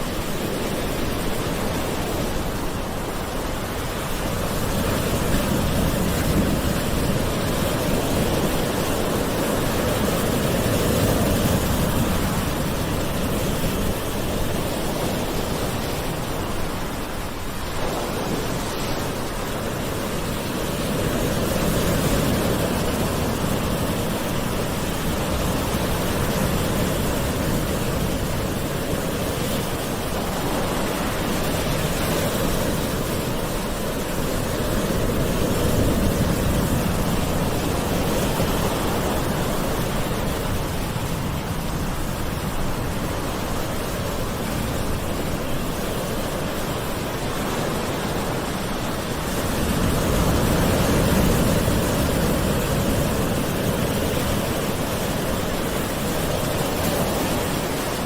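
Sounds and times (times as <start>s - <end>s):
sea waves washing ashore: 0.0s - 58.0s.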